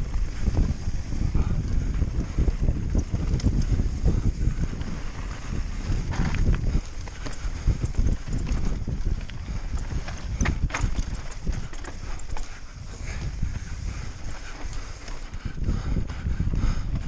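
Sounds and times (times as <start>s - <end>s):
bike rattling over rough ground: 0.0s - 17.0s
wind rumble on microphone: 0.0s - 17.0s.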